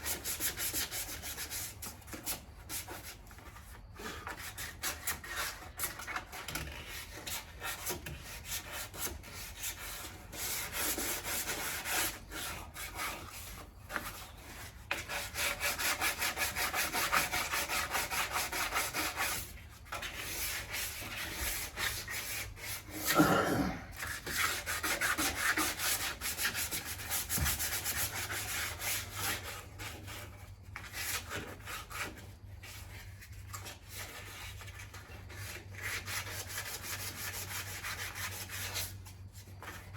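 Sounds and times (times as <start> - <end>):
sandpaper rasping on car body: 0.0 - 23.1, 23.9 - 39.9.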